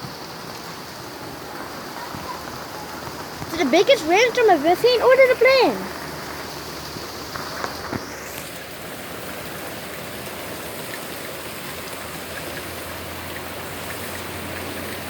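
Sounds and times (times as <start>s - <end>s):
heavy rain hissing: 0.0s - 15.0s
runoff water running: 0.0s - 15.0s.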